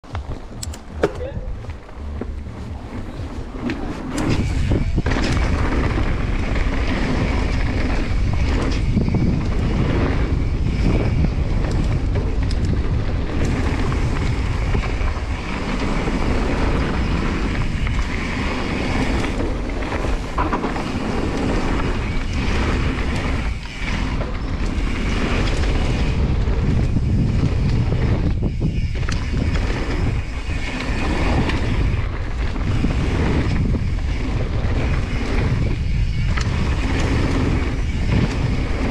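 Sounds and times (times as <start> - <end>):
bike knocks and rattles: 0.0 - 38.9
bike tyres rolling over gravel: 0.0 - 38.9
wind rushing over microphone: 0.0 - 38.9.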